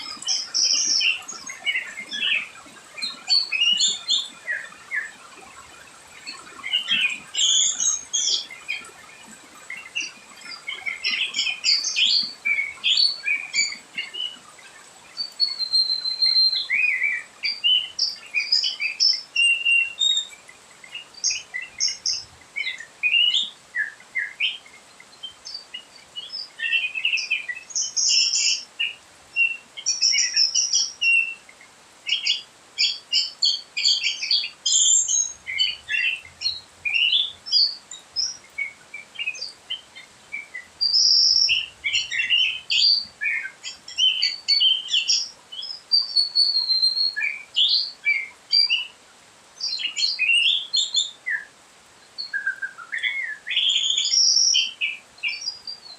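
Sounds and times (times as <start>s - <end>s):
birds chirping: 0.0s - 49.0s, 49.6s - 55.9s.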